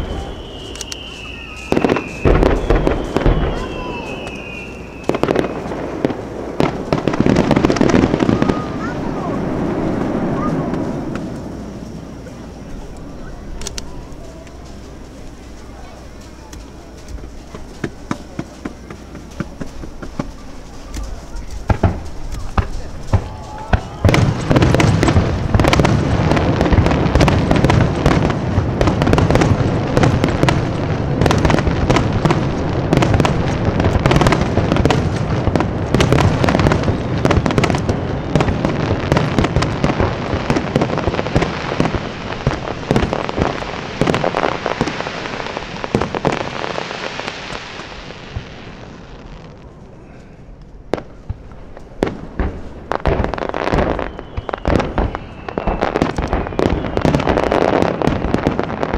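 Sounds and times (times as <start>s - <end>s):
single firework bangs: 0.0s - 49.5s, 50.9s - 58.9s
fireworks bursting with booms: 0.0s - 50.2s, 50.8s - 58.9s.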